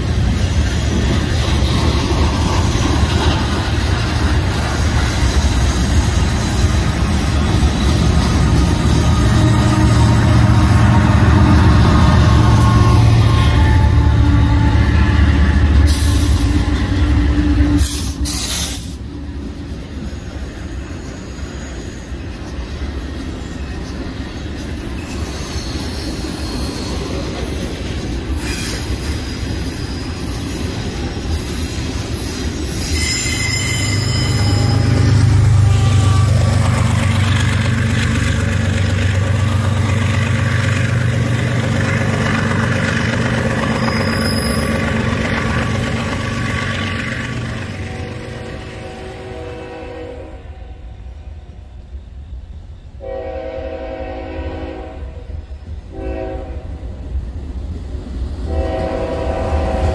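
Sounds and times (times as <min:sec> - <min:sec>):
diesel locomotive engine rumble: 0:00.0 - 0:59.9
train wheels rolling and squealing: 0:00.0 - 0:59.9.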